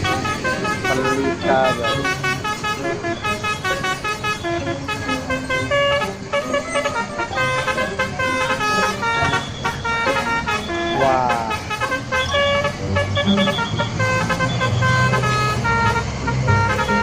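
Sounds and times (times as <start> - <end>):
multi-trumpet air horn tune: 0.0 - 17.0
road traffic rumble: 0.0 - 17.0.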